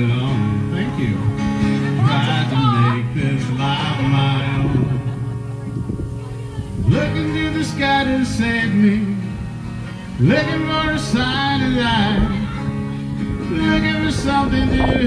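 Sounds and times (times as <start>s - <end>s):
man singing into a microphone: 0.0s - 5.7s, 6.8s - 15.0s
steel-string acoustic guitar: 0.0s - 15.0s.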